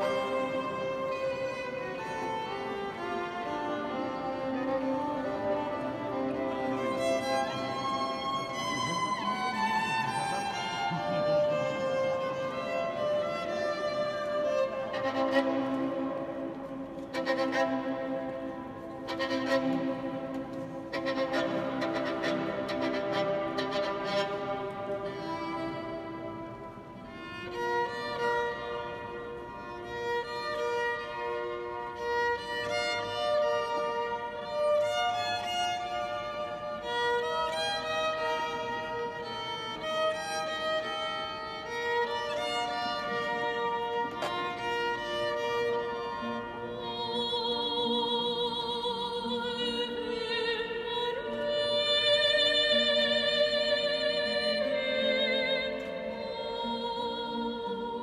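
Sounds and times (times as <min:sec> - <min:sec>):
violin slow melody: 0:00.0 - 0:58.0.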